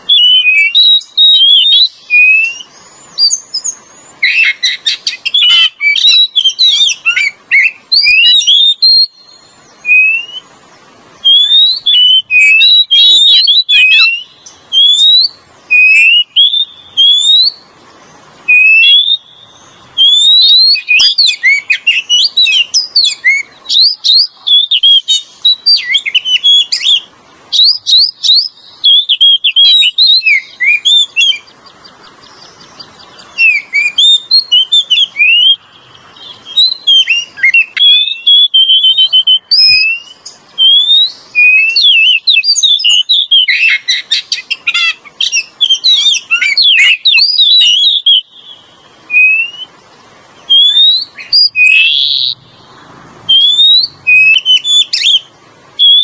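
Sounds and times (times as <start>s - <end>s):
songbird whistling and chirping: 0.0s - 56.0s.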